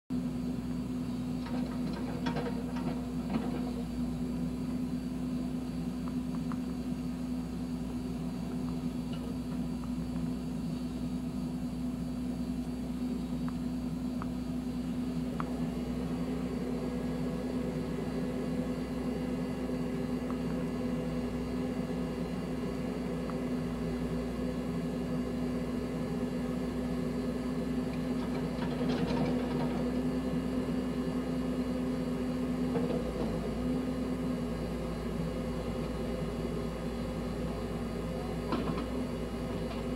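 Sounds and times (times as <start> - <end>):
diesel engine droning: 0.1 - 39.9.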